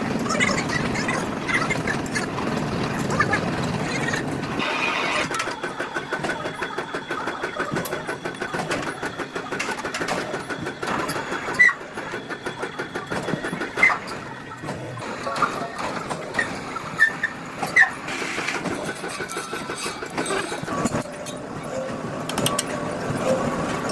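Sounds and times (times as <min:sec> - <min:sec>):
factory machinery clattering: 0:00.0 - 0:23.9.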